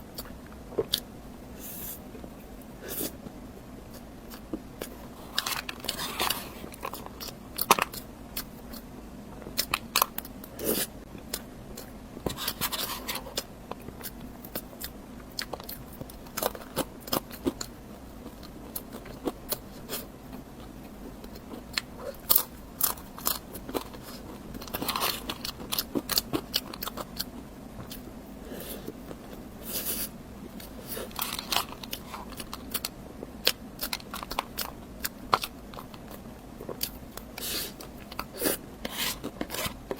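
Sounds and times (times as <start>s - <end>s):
crunchy chewing: 0.1s - 2.0s, 3.9s - 39.9s.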